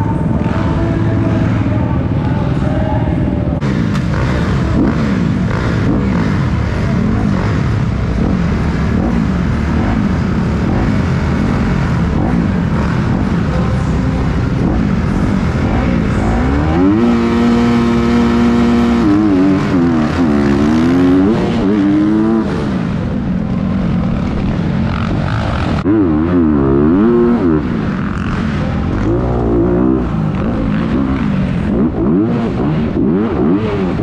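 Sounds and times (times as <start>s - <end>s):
dirt bike engines idling and blipping: 0.0s - 34.0s
engine revving high: 3.6s - 23.3s, 24.0s - 34.0s.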